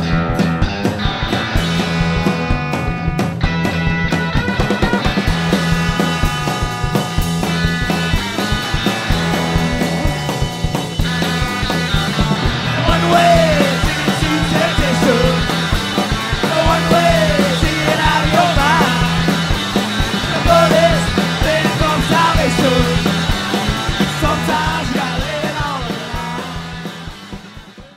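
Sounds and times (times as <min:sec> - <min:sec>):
rock music: 0:00.0 - 0:27.9.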